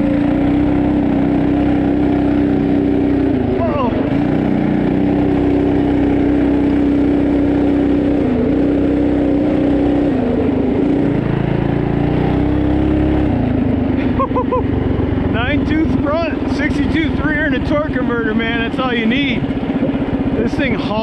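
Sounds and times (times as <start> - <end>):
mini bike engine at high revs: 0.0 - 21.0.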